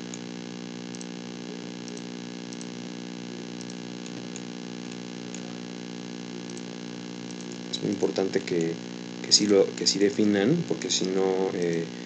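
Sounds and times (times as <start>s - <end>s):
constant hiss: 0.0s - 12.0s
electrical hum: 0.0s - 12.0s.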